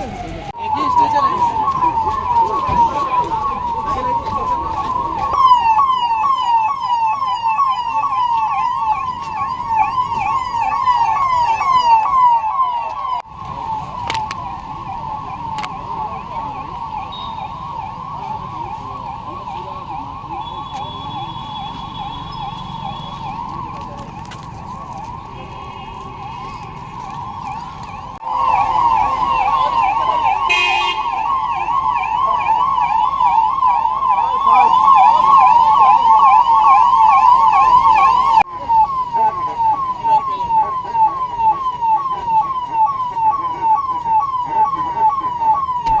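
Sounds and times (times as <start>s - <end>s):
emergency vehicle siren: 0.0s - 46.0s.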